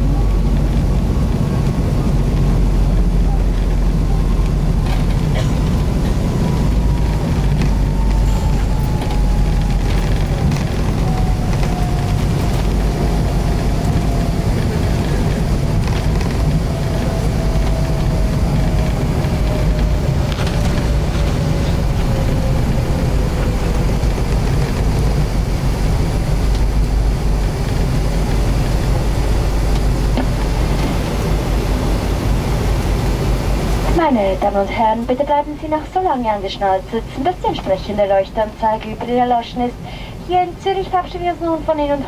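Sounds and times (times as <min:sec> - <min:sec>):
turbofan whine falling in pitch: 0:00.0 - 0:35.7
low rumble of airframe and engines: 0:00.0 - 0:42.0.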